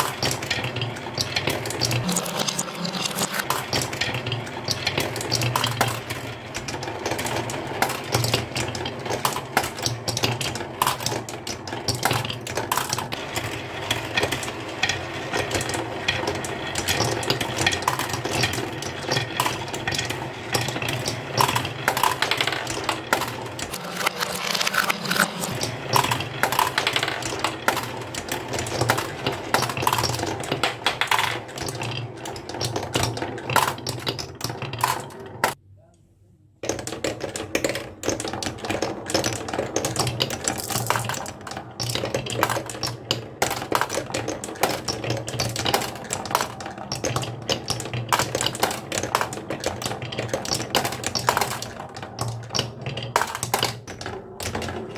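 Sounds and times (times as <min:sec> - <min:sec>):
marbles clacking down wooden run: 0:00.0 - 0:35.6, 0:36.6 - 0:54.9.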